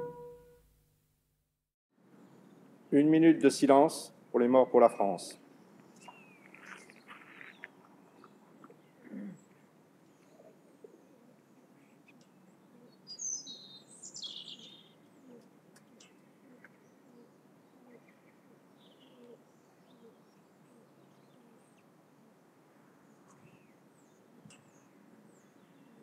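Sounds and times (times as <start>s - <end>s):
quiet outdoor background: 0.0s - 26.0s
birds chirping: 2.1s - 26.0s.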